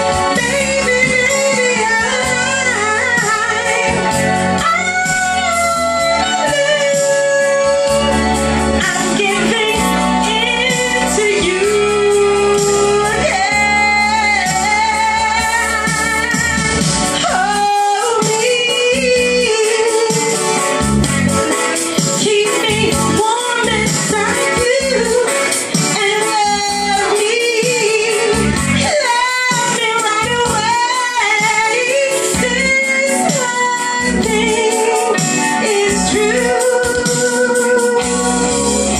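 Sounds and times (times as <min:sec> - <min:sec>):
woman singing with vibrato: 0:00.0 - 0:20.8, 0:22.1 - 0:38.9
instrumental accompaniment: 0:00.0 - 0:38.9.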